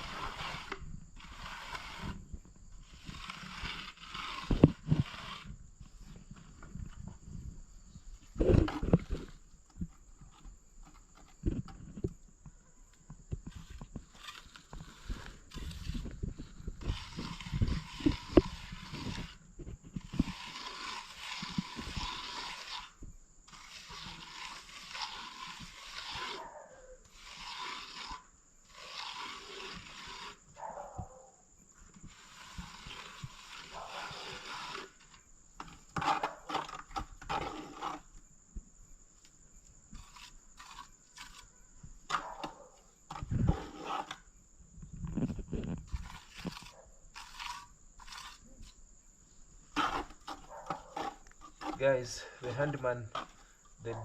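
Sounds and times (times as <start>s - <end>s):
tools scraping sand and stones: 0.0s - 12.4s, 13.0s - 30.8s, 31.7s - 38.4s, 39.2s - 54.0s.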